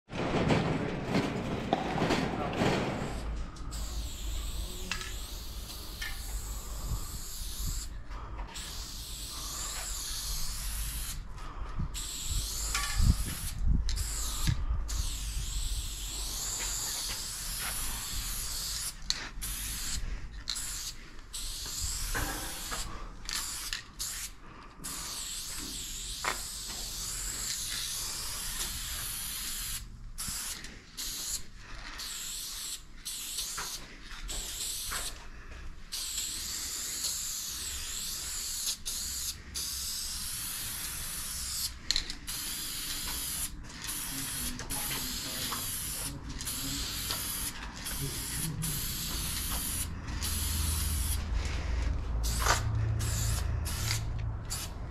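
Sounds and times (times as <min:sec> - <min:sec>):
spray paint can hissing: 0:03.7 - 0:11.2, 0:11.9 - 0:35.2, 0:35.9 - 0:51.3, 0:52.2 - 0:54.9.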